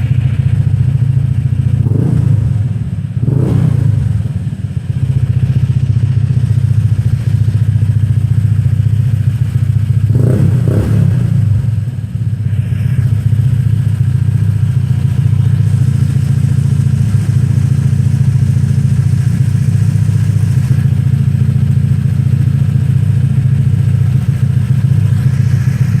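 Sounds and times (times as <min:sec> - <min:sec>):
scooter engine idling: 0:00.0 - 0:26.0.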